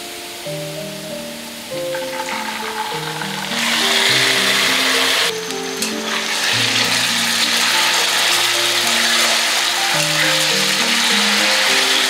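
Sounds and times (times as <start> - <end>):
soft melodic background music: 0.0 - 12.0
chicken sizzling in hot oil: 1.8 - 12.0.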